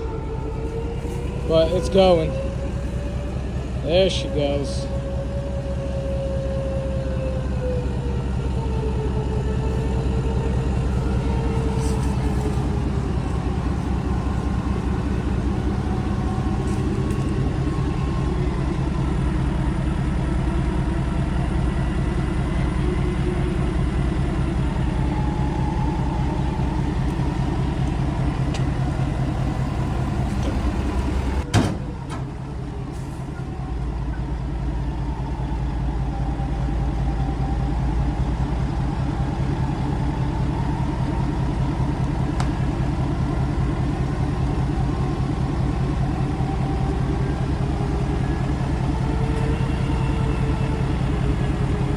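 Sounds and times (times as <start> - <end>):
electric winch whining under load: 0.0 - 51.9
pickup engine running: 0.2 - 5.6, 7.1 - 31.5, 32.2 - 51.9.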